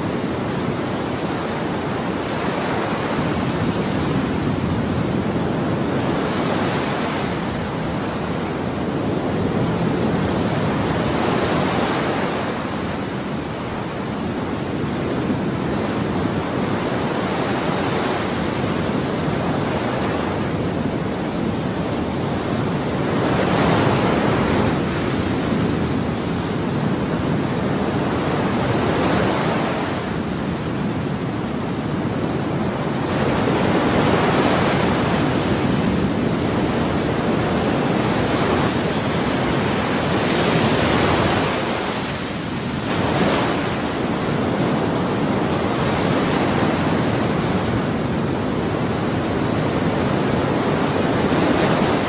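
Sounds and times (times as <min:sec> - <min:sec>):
ocean waves surging: 0:00.0 - 0:52.0.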